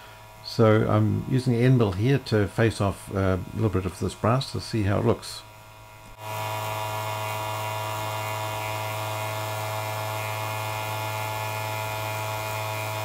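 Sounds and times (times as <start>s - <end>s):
electric motor hum and whine: 0.0s - 13.0s.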